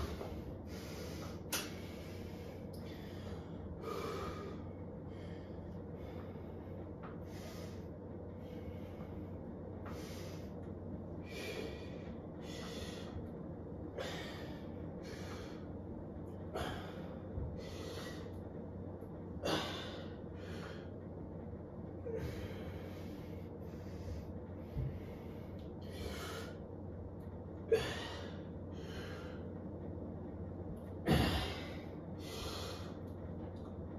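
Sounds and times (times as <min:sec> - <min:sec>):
man breathing hard: 0:00.0 - 0:18.6, 0:19.3 - 0:21.1, 0:22.0 - 0:26.9, 0:27.6 - 0:29.8, 0:31.0 - 0:33.2.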